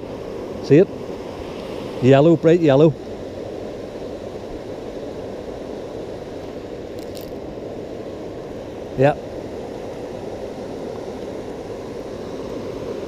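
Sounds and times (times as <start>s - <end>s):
river water rushing over weir: 0.0s - 13.0s.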